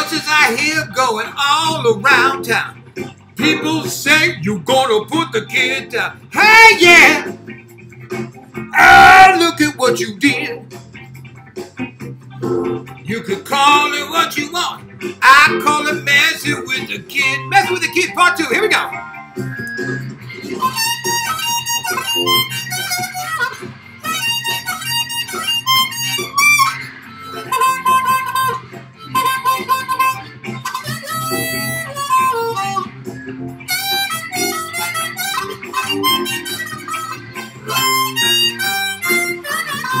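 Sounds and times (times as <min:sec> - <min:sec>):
blues harmonica solo: 0:00.0 - 0:07.5, 0:12.4 - 0:40.0
backing track with bass and guitar: 0:00.0 - 0:40.0.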